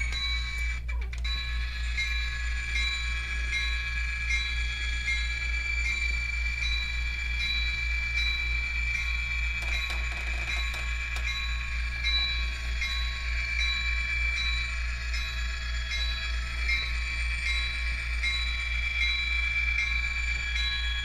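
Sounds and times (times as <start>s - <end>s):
model train humming: 0.0s - 21.0s.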